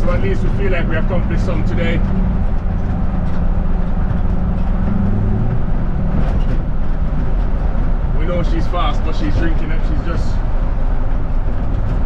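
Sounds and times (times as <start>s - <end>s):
pickup truck engine running: 0.0s - 12.0s
road noise: 0.0s - 12.0s.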